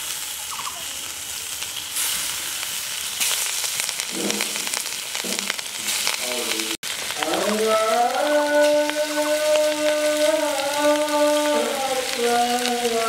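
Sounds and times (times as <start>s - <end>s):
fish sizzling in hot oil: 0.0s - 13.0s.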